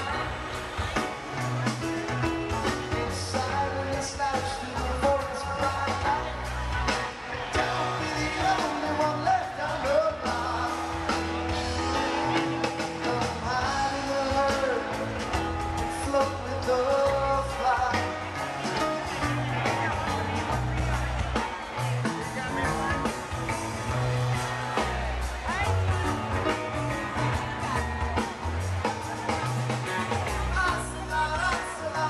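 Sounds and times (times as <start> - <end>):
bass guitar: 0.0 - 32.0
drums: 0.0 - 32.0
electric guitar: 0.0 - 32.0
lead vocal singing: 2.4 - 32.0.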